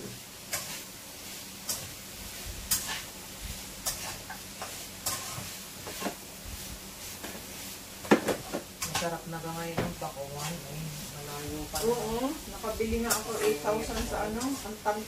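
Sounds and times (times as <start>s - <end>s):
frying sizzle: 0.0s - 15.0s
utensil scraping frying pan: 0.0s - 15.0s.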